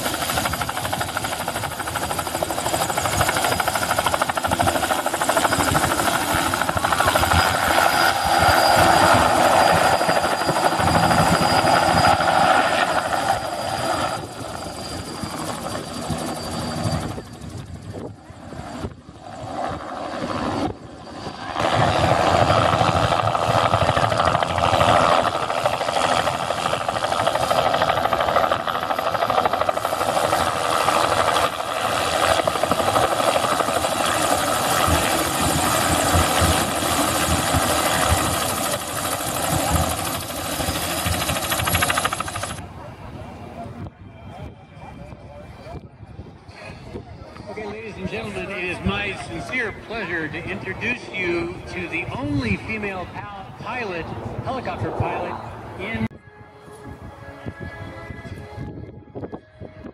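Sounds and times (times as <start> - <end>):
steady high whine: 0.0 - 42.8, 47.1 - 59.4
helicopter rotor noise: 0.0 - 59.9
turbine whine: 0.0 - 59.9.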